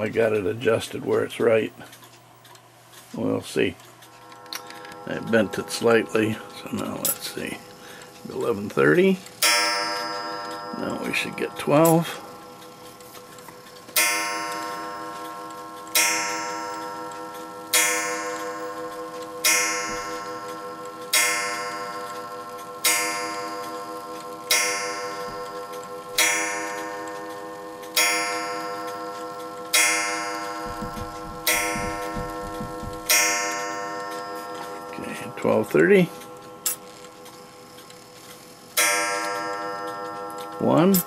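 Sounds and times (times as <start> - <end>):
clock striking on wire gong: 4.2 - 12.8, 13.9 - 37.6, 38.7 - 41.0.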